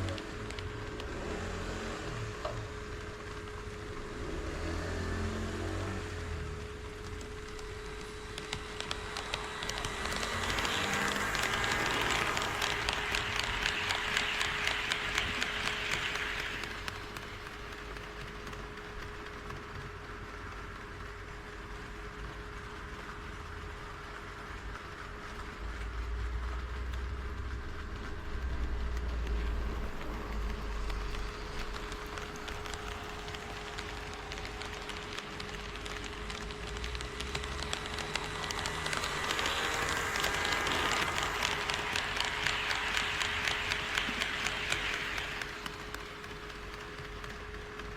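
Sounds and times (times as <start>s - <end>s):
model train wheels clicking: 0.0s - 47.9s.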